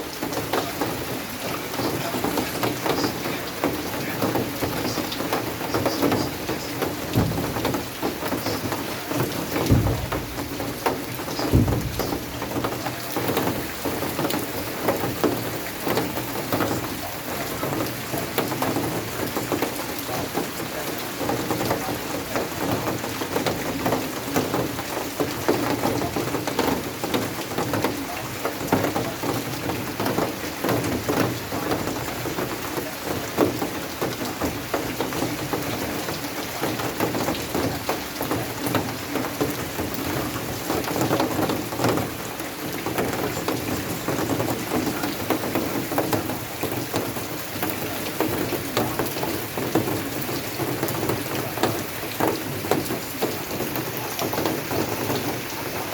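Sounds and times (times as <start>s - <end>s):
rain falling steadily: 0.0s - 55.9s.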